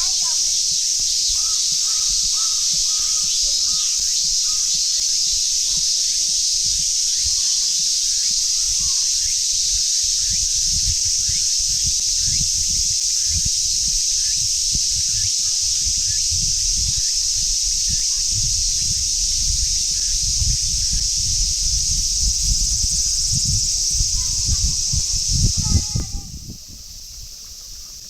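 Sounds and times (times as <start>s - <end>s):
cicadas droning: 0.0s - 28.0s
wind buffeting microphone: 0.0s - 28.0s.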